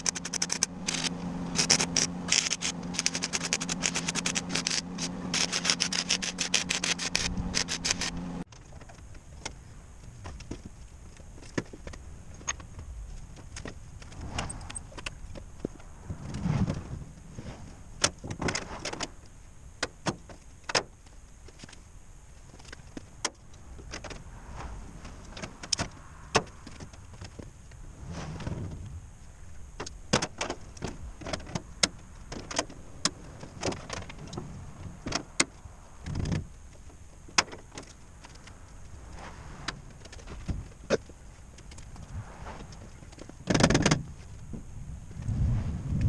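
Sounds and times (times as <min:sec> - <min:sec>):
low rumbles: 0:00.0 - 0:19.8, 0:20.5 - 0:46.0.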